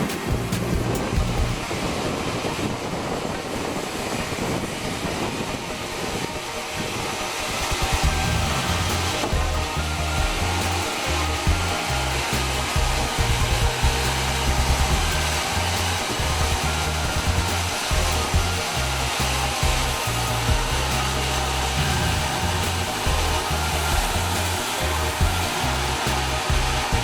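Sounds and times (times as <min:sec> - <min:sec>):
background music with pulsing bass: 0:00.0 - 0:27.0
sawmill saw whirring: 0:00.0 - 0:27.0.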